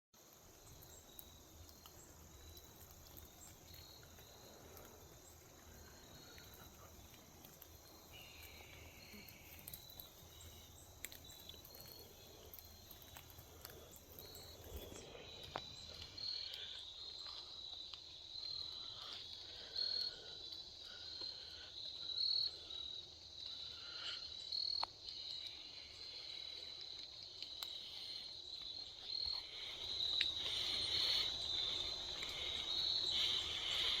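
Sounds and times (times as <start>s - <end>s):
insects trilling: 0.2s - 34.0s.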